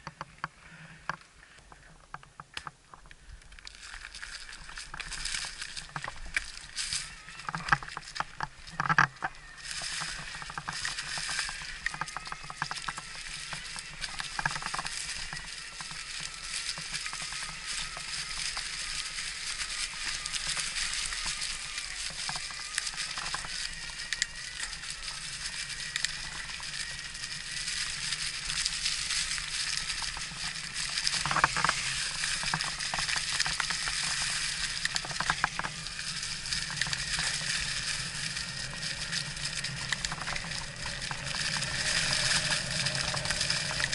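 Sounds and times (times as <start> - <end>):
tyres crackling over gravel: 0.0 - 43.9
stones clicking: 2.1 - 43.9.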